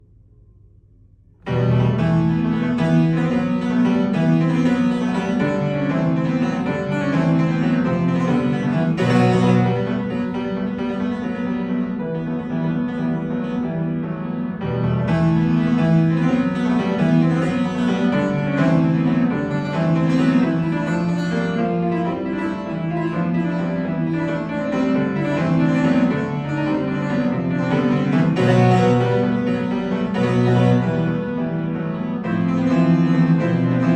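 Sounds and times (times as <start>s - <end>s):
solo piano music: 1.3s - 33.9s.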